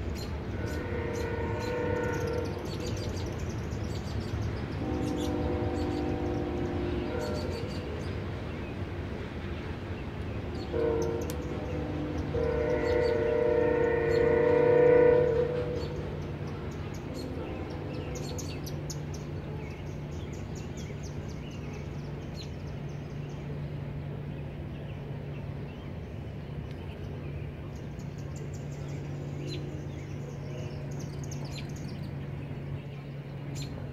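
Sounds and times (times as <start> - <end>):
distant freight train rumble: 0.0 - 33.9.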